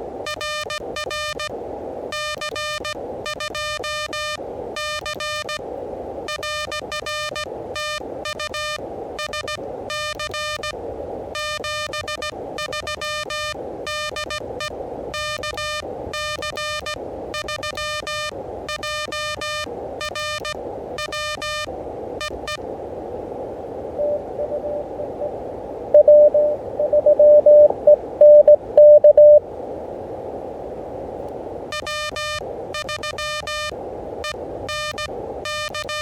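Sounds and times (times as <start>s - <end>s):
receiver hiss: 0.0s - 36.0s
morse code tone: 0.3s - 1.5s, 2.1s - 5.6s, 6.3s - 10.8s, 11.4s - 22.6s, 24.0s - 25.3s, 26.0s - 29.4s, 31.7s - 36.0s.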